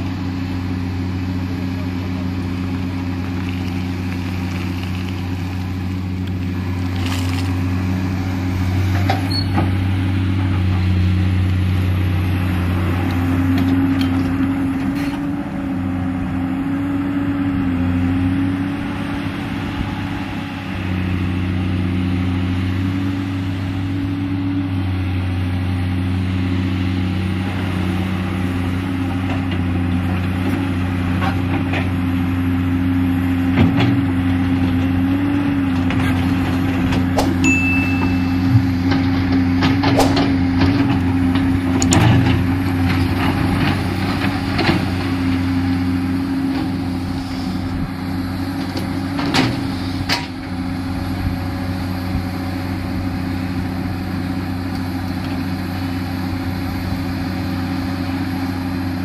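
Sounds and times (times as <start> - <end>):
excavator diesel engine working: 0.0 - 59.0.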